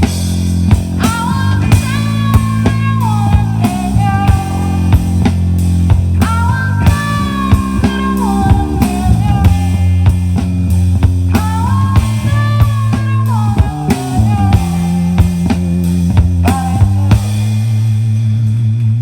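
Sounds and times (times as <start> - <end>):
drum beat: 0.0 - 18.0
bass: 0.0 - 19.0.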